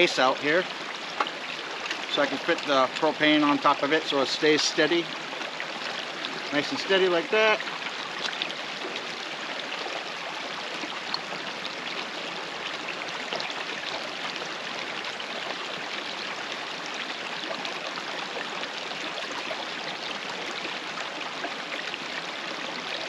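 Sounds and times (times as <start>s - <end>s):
creek running over rocks: 0.0s - 23.0s.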